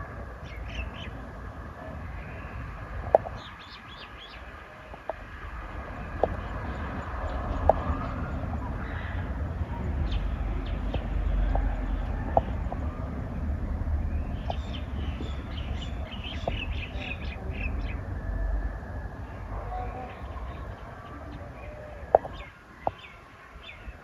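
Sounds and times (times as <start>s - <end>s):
low rumble: 0.0s - 23.0s
bird chirping: 0.4s - 1.2s, 1.9s - 24.0s.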